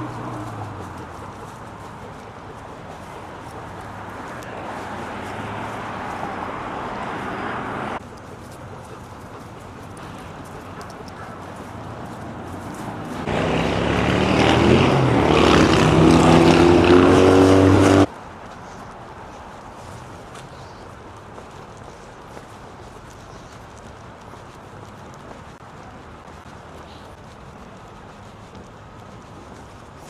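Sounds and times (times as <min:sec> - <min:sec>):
road traffic noise: 0:00.0 - 0:30.0
vehicle approaching: 0:00.0 - 0:30.0.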